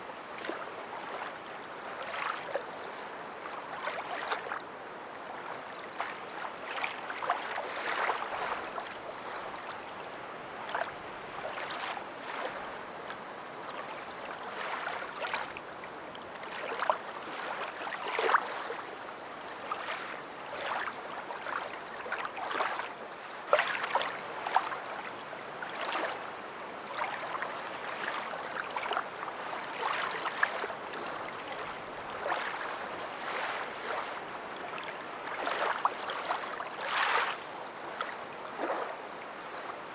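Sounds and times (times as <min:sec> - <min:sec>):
water splashing and lapping: 0:00.4 - 0:02.9, 0:03.6 - 0:04.7, 0:05.3 - 0:15.8, 0:16.4 - 0:39.9.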